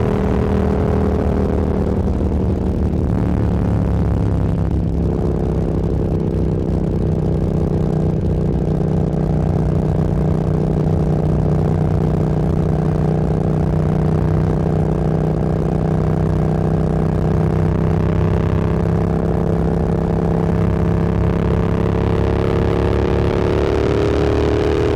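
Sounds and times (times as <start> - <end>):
motorcycle engine cruising: 0.0 - 24.9.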